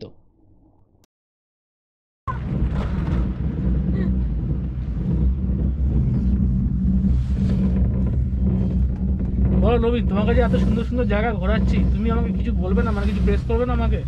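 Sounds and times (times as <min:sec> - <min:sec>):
cable car cabin hum and rumble: 0:02.3 - 0:14.0.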